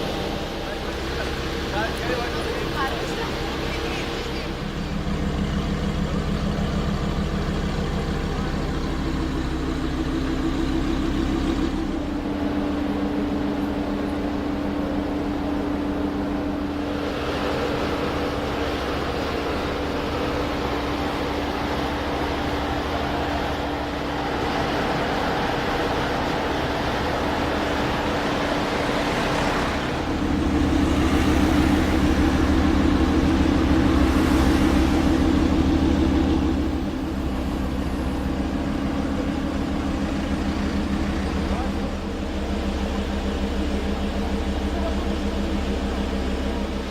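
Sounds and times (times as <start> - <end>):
sports car engine idling: 0.0 - 46.9.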